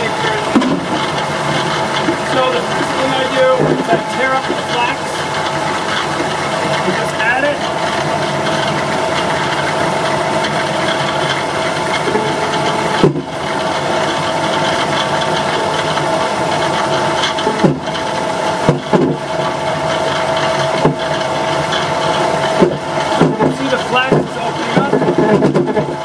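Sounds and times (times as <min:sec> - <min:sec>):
pulp beater machine humming: 0:00.0 - 0:26.0.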